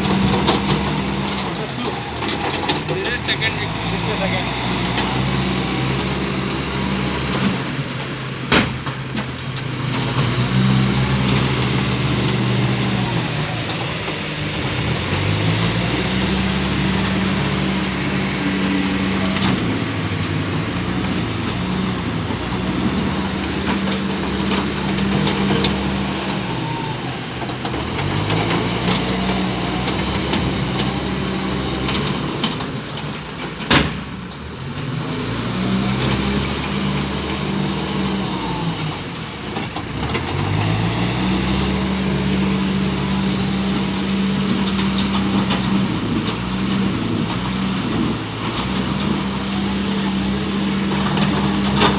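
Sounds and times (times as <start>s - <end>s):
diesel engine revving under load: 0.0s - 51.9s.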